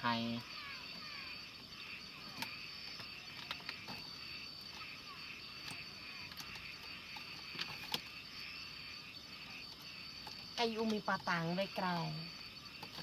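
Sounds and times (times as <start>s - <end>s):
crickets trilling: 0.0s - 13.0s
insects chirring: 0.0s - 13.0s.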